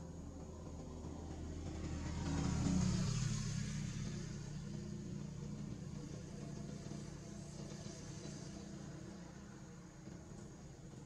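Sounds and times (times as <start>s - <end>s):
passing vehicle engine: 0.0s - 11.0s.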